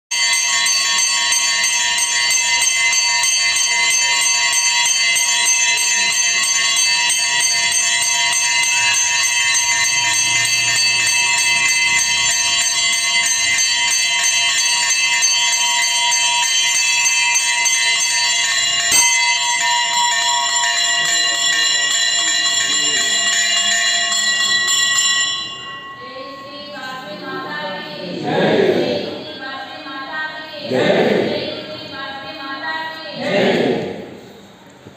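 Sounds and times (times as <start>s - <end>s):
temple bells clanging: 0.1s - 29.5s.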